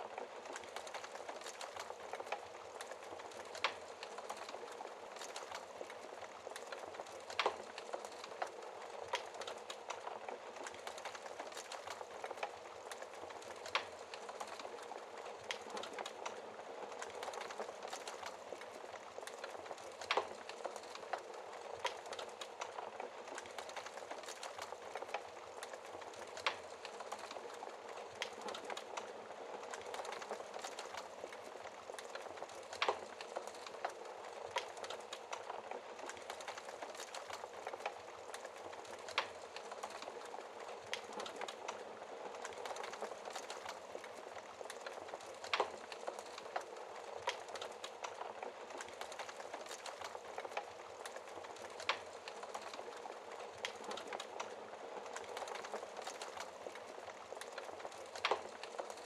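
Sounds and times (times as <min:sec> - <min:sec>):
fire hissing and crackling: 0:00.0 - 0:59.0
fire popping: 0:00.0 - 0:59.0.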